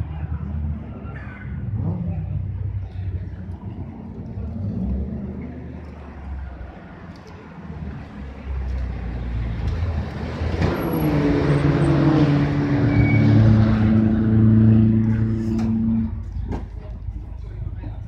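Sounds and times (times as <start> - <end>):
car engine approaching: 0.0 - 18.0.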